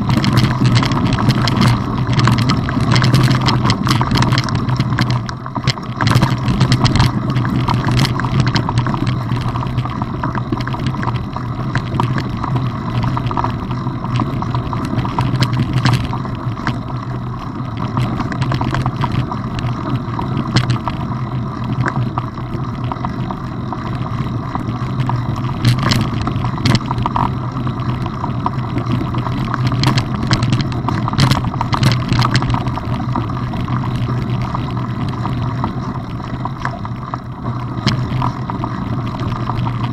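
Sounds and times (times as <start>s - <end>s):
bike rattles and knocks: 0.0s - 39.9s
bike tyres rumbling on gravel: 0.0s - 39.9s.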